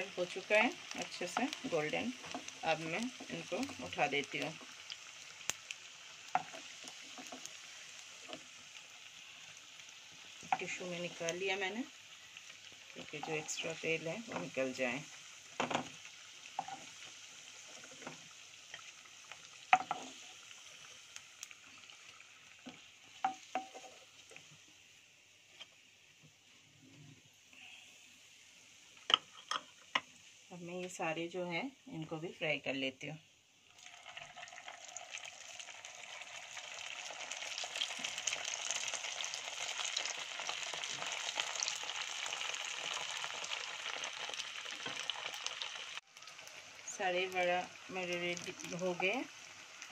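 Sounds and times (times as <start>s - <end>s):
hot oil sizzling in a pan: 0.0s - 49.9s.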